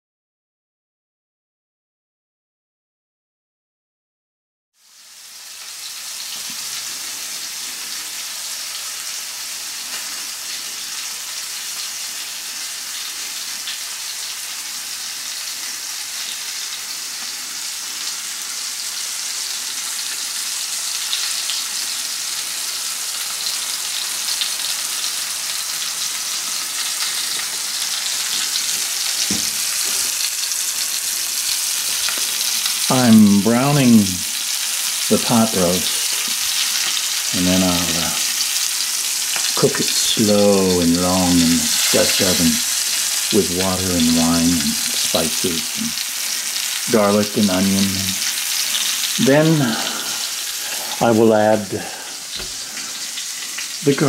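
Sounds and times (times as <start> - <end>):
meat sizzling in a frying pan: 4.8 - 54.0.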